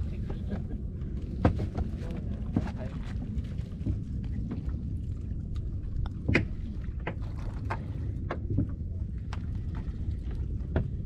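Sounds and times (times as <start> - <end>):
low rumble of wind: 0.0 - 11.0
water rumbling: 0.0 - 11.0.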